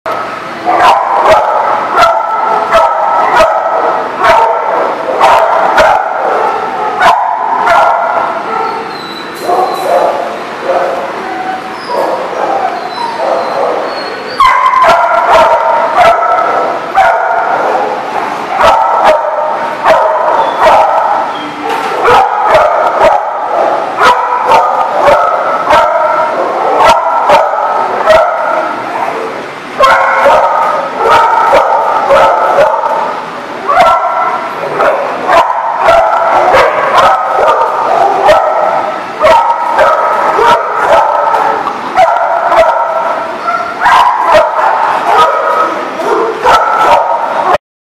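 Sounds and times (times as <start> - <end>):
dogs barking and growling: 0.1 - 47.6.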